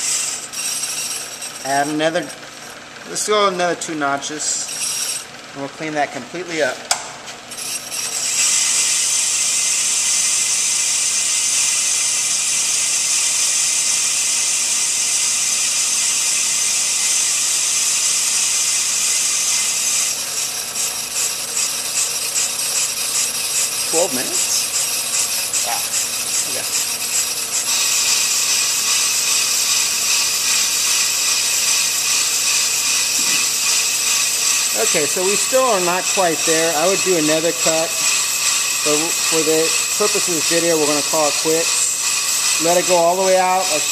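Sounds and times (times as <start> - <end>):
brake lathe cutting metal: 0.0 - 43.9.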